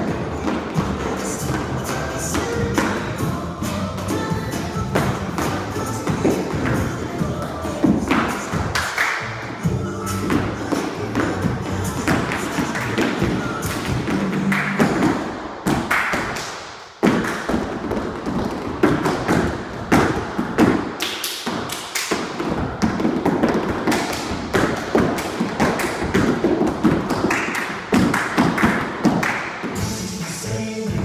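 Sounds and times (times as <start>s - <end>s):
music playing: 0.0s - 31.0s.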